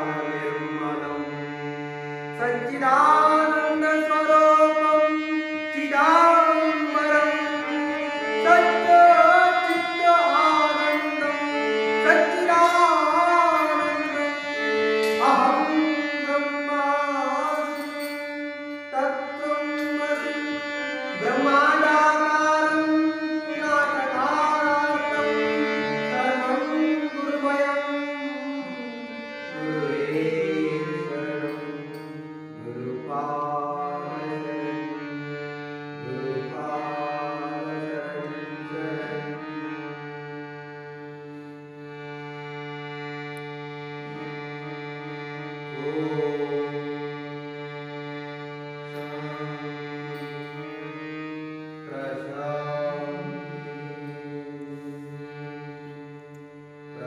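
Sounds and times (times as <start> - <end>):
person singing: 0.0 - 1.5, 2.3 - 41.5, 43.4 - 57.0
harmonium melody: 0.0 - 57.0.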